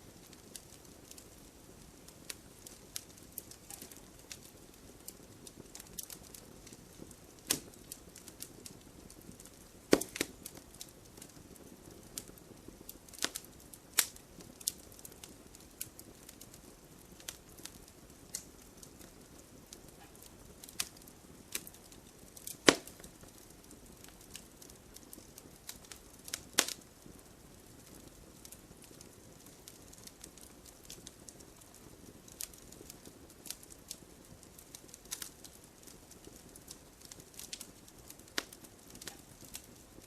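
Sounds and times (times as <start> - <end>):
firewood crackling and popping: 0.0 - 40.0.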